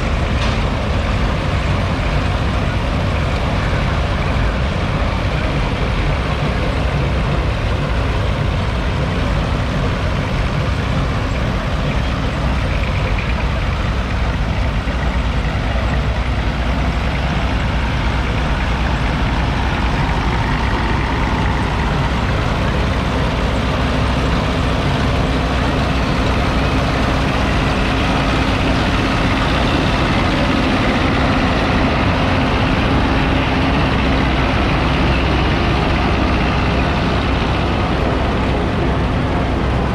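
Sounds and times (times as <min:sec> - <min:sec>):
tractor engines passing: 0:00.0 - 0:39.9.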